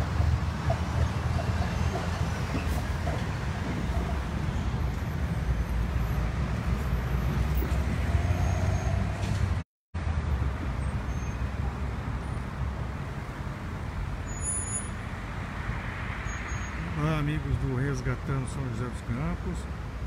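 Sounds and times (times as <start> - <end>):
cars passing: 0.0 - 20.0
low traffic rumble: 0.0 - 20.0.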